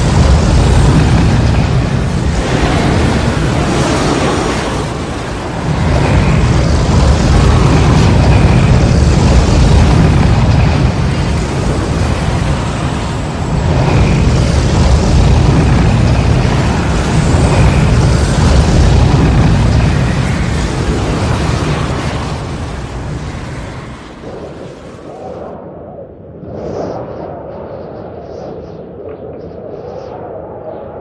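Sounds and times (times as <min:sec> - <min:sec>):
tornado roar: 0:00.0 - 0:25.6.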